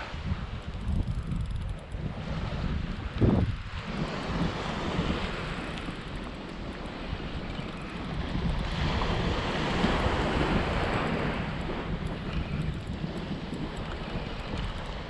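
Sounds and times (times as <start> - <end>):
wind buffeting microphone: 0.0 - 15.0
surf washing up beach: 2.2 - 15.0.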